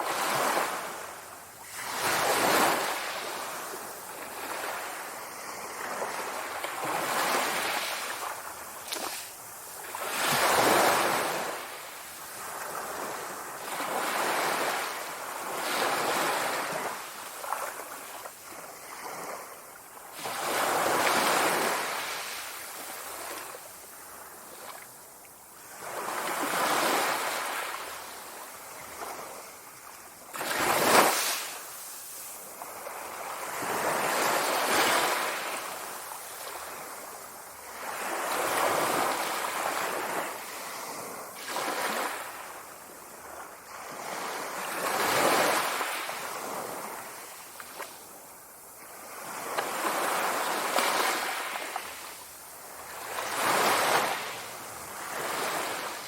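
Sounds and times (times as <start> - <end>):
sea waves washing in: 0.0 - 25.0, 25.6 - 56.0.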